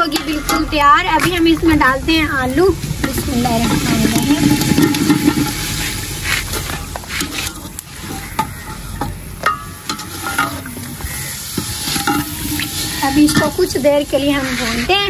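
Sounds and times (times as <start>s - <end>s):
potatoes sizzling in oil: 0.0s - 15.0s
metal ladle scraping pot: 2.9s - 15.0s.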